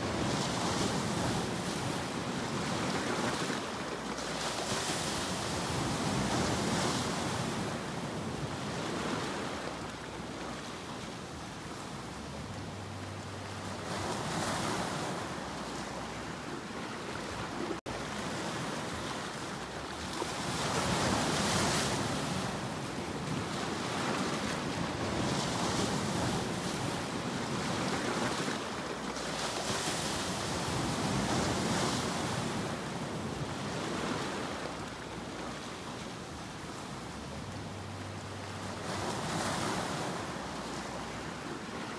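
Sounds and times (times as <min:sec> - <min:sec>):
surf washing over rocks: 0:00.0 - 0:41.9.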